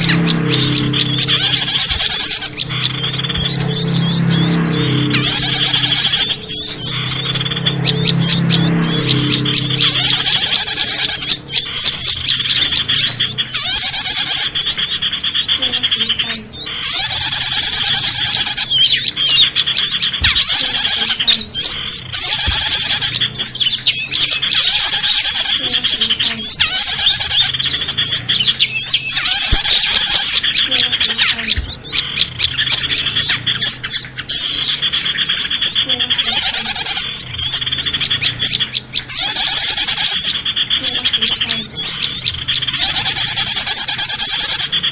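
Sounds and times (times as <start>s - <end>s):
small birds chirping and trilling: 0.0s - 44.9s.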